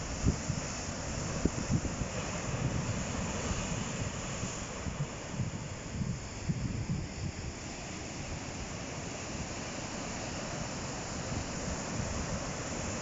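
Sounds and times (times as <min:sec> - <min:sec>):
wind buffeting the microphone: 0:00.0 - 0:09.6, 0:11.2 - 0:13.0
ocean surf washing onto shore: 0:00.0 - 0:13.0.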